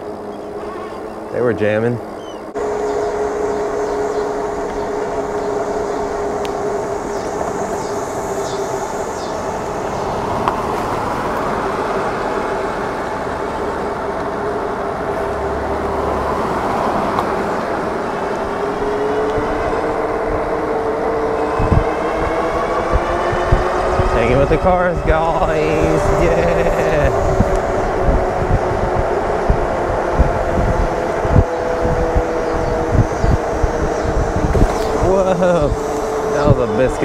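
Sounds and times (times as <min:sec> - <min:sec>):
electric bike motor whine: 0:00.0 - 0:37.0
tyres humming and wind: 0:00.0 - 0:37.0.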